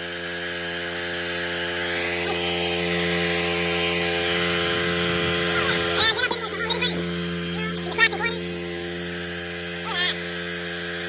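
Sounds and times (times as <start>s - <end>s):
pressure washer engine running: 0.0s - 11.0s.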